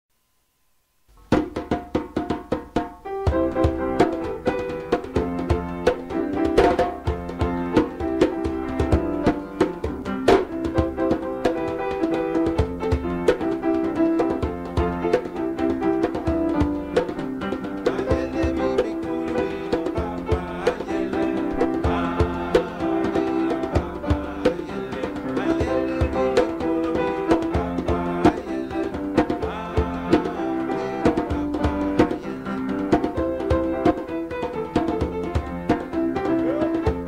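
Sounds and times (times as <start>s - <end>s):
hand-drum strokes: 1.2s - 37.0s
held piano notes: 2.6s - 37.0s.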